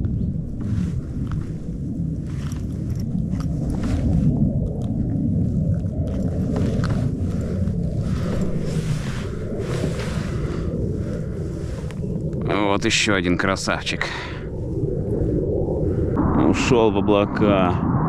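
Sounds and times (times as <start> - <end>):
aircraft flying overhead: 0.4 - 15.5.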